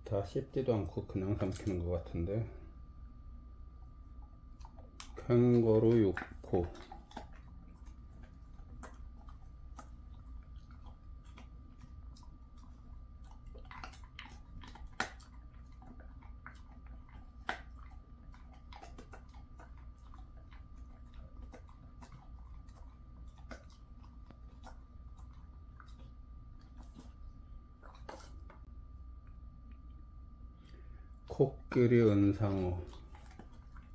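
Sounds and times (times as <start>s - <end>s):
dog chewing a treat: 0.1s - 33.9s.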